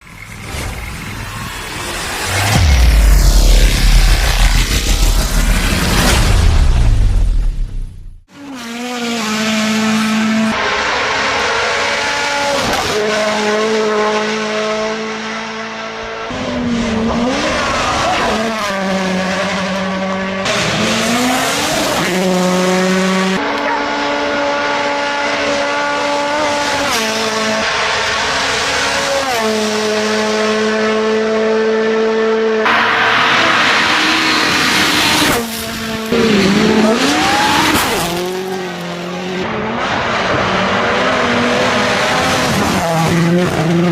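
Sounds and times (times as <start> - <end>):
rally car engines at high revs: 0.0 - 7.3, 8.3 - 43.9.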